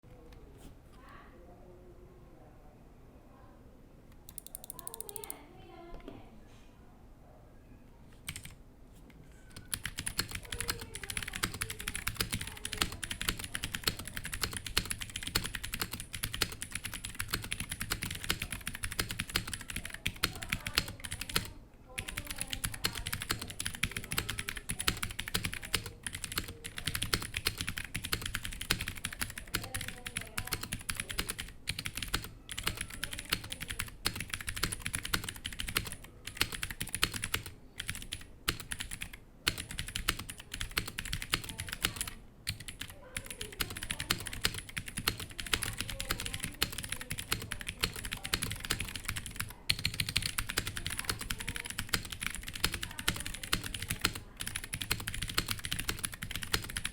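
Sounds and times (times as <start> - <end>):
mechanical keyboard typing: 4.2 - 5.4, 8.2 - 8.6, 9.5 - 56.9.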